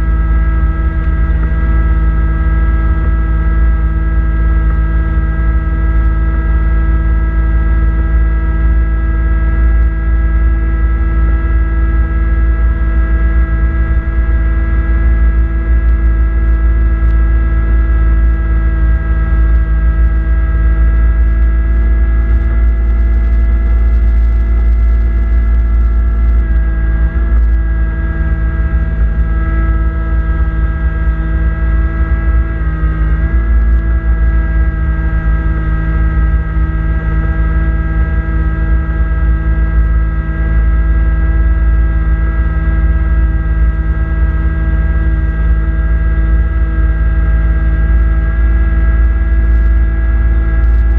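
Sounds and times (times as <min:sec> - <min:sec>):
tractor diesel engine running: 0:00.0 - 0:07.4, 0:08.2 - 0:50.9.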